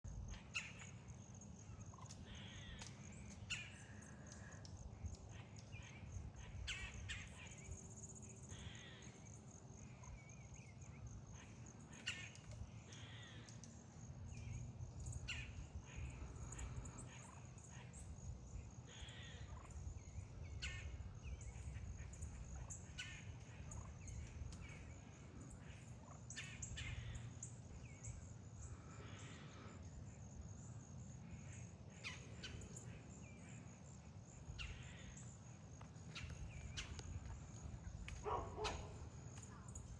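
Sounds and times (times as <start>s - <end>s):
turkeys purring: 1.6s - 7.7s, 11.5s - 29.8s, 31.3s - 39.9s.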